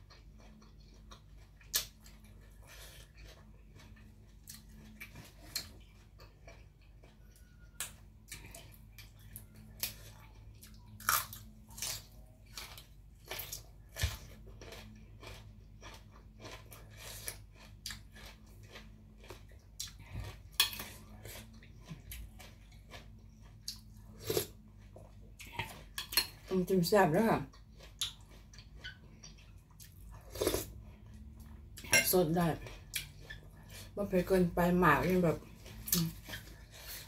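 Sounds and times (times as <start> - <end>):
person chewing with mouth smacks: 0.0 - 26.5, 27.5 - 31.9.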